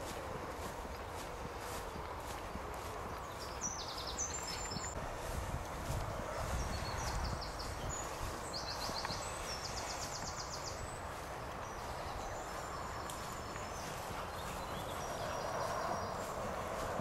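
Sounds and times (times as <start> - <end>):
footsteps through grass: 0.0 - 17.0
songbird trills: 1.0 - 5.0, 6.2 - 17.0.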